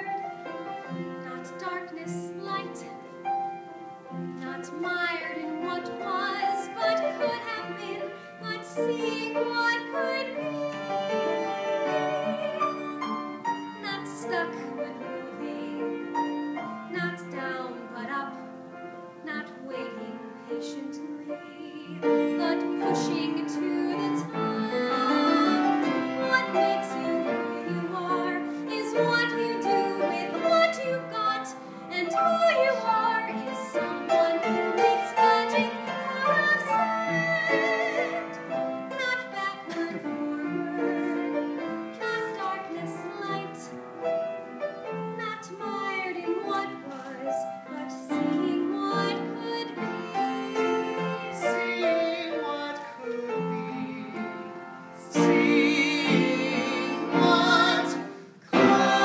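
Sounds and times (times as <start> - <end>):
piano accompaniment: 0.0 - 59.0.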